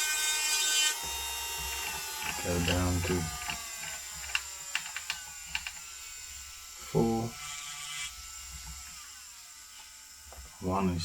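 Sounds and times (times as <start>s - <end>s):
small motor whining: 0.0s - 10.6s.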